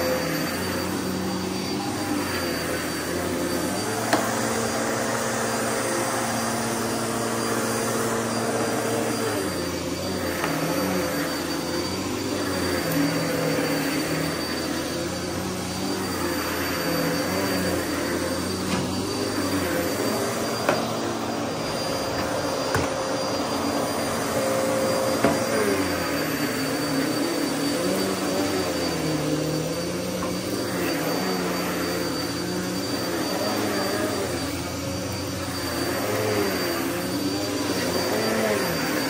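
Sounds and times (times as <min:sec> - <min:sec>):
vacuum cleaner on carpet: 0:00.0 - 0:39.0.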